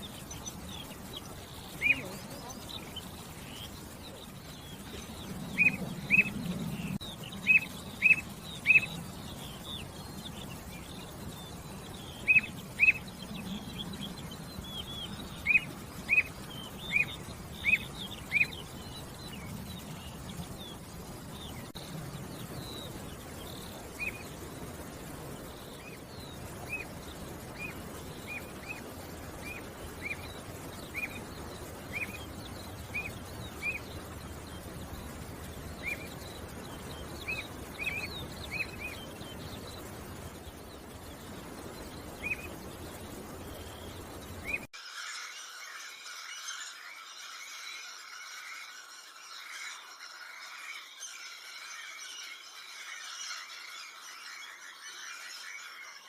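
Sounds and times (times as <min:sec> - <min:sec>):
faint high bird chirps: 0:00.0 - 0:56.0.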